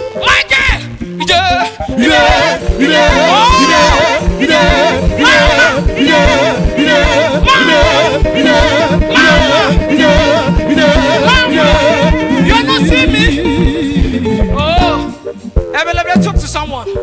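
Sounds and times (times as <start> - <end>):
steady music beat: 0.6 - 17.0.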